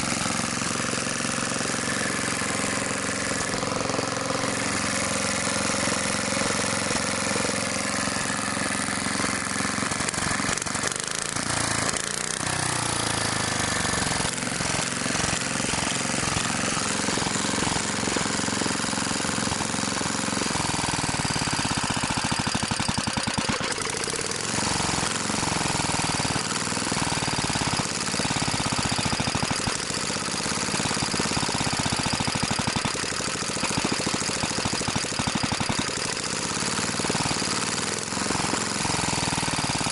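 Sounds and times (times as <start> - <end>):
engine running without muffler: 0.0 - 39.9.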